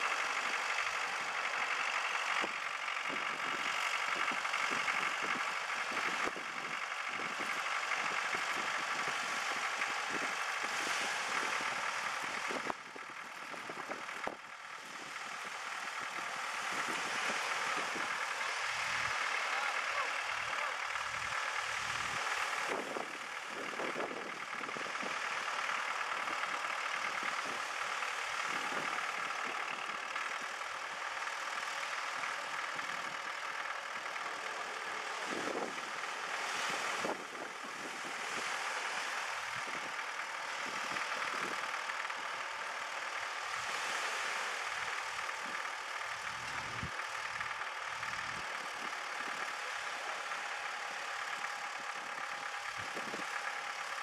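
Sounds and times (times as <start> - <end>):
distant tractor engine idling: 0.0 - 54.0.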